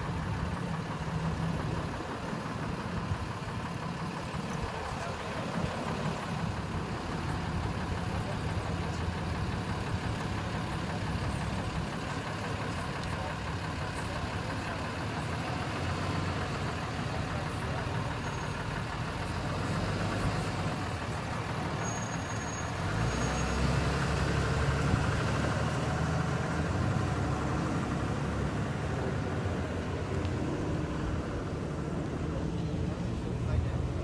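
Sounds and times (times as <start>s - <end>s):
street traffic noise: 0.0s - 34.0s
truck engine accelerating: 0.0s - 34.0s.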